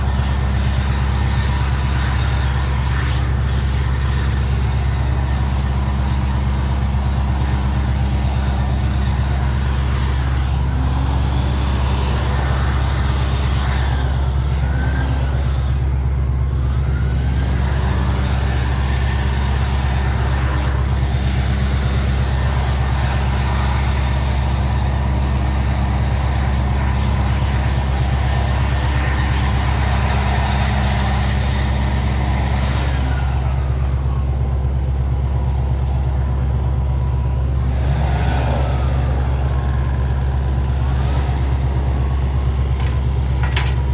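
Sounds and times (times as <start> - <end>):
wood chipper engine running: 0.0 - 43.9.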